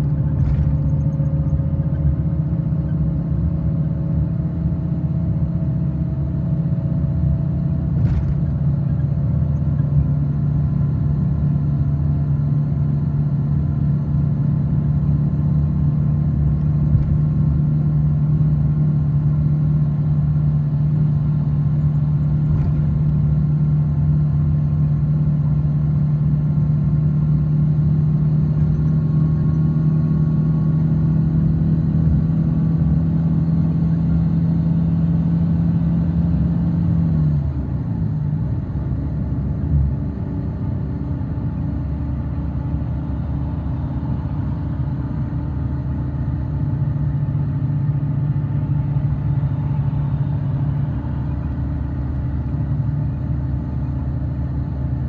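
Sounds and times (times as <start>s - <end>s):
road rumble: 0.0s - 55.0s
vehicle engine hum: 0.0s - 55.0s.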